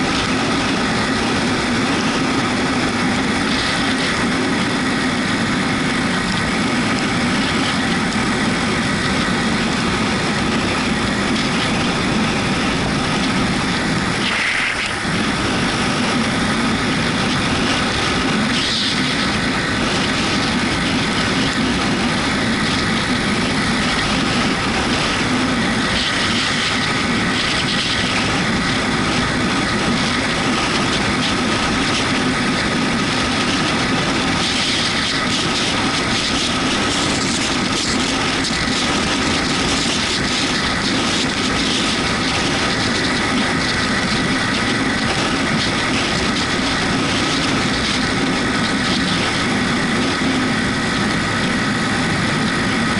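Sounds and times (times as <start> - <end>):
motorcycle engine running: 0.0 - 52.9
road noise: 0.0 - 52.9
wind noise: 0.0 - 52.9.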